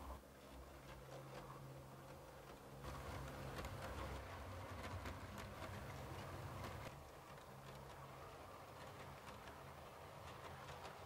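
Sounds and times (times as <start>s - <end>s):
model train motor humming: 0.0s - 11.0s
wheels clicking over rail joints: 0.0s - 11.0s.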